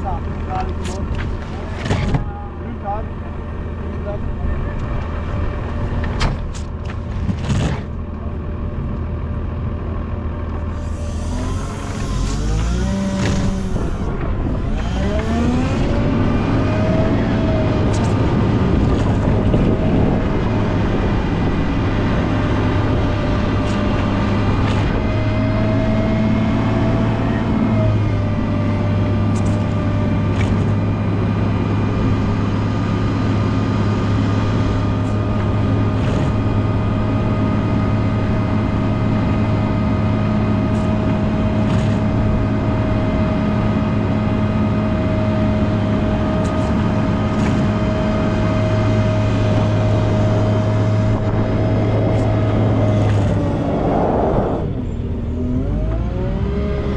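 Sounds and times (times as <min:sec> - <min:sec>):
steady whine: 0:00.0 - 0:56.3
loader diesel engine running: 0:00.0 - 0:56.5.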